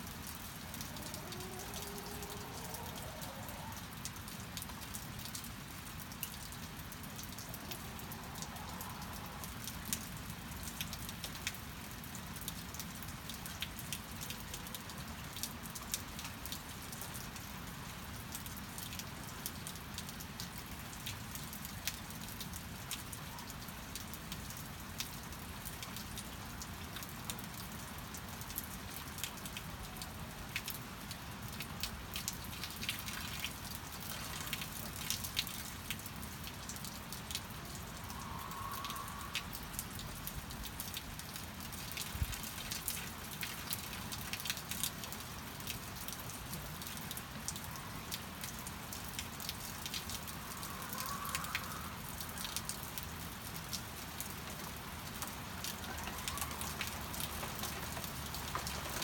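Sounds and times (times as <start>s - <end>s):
raindrops ticking: 0.0s - 59.0s
steady rain falling: 0.0s - 59.0s.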